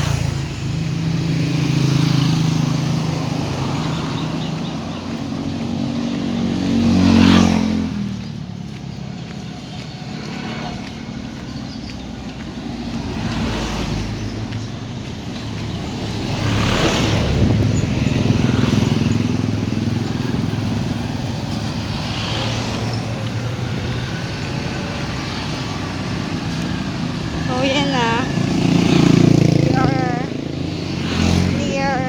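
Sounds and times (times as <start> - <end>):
motor vehicles passing: 0.0 - 32.0.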